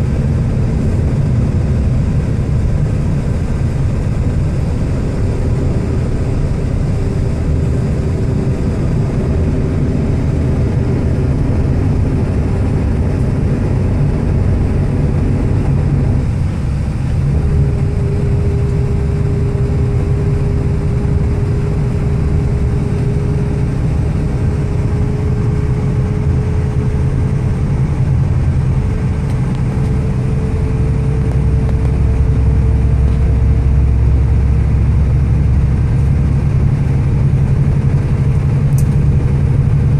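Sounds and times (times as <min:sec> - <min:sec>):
faint whine: 0:00.0 - 0:39.9
vehicle engine and tyres rumbling: 0:00.0 - 0:39.9.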